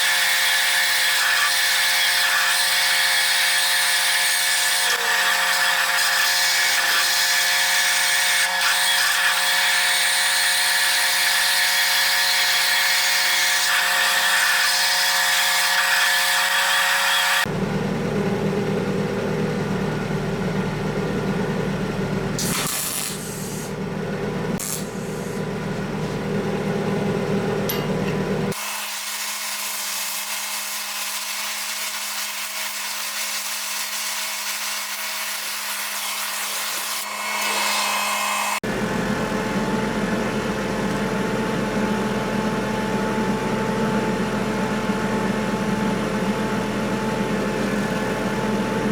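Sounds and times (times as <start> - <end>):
power tools whirring and cutting: 0.0 - 17.5, 22.4 - 23.8, 24.6 - 26.1, 28.5 - 48.9.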